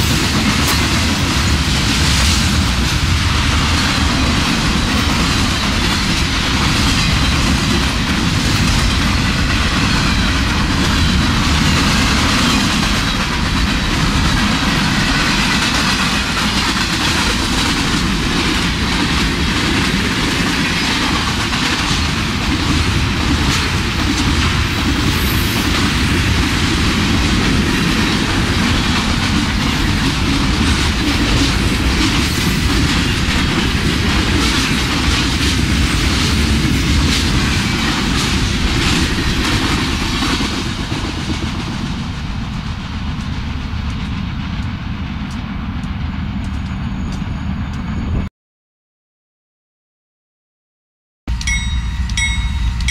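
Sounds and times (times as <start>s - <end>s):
rail clicks: 0.0s - 48.1s, 51.3s - 52.9s
train wheels rumbling on rail: 0.0s - 48.3s.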